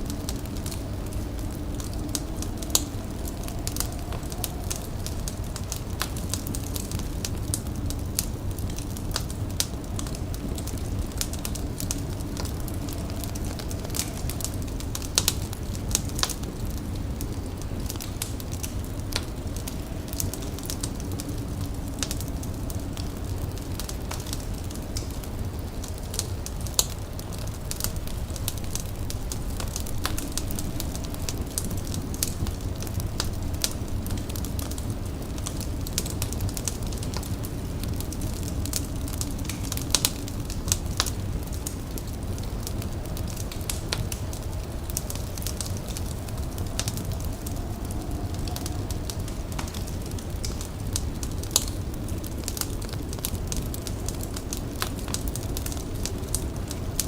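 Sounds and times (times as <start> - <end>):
low rumble: 0.0 - 56.9
fire crackling: 0.0 - 57.0.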